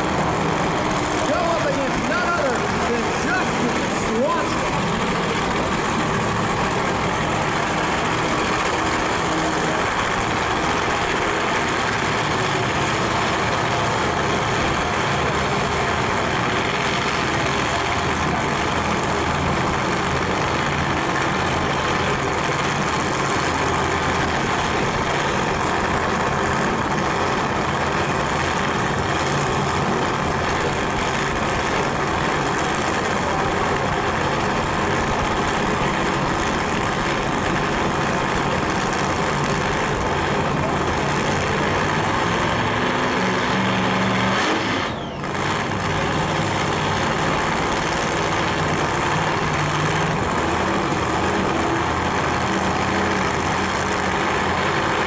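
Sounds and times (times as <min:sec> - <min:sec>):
race car engines idling: 0:00.0 - 0:55.0.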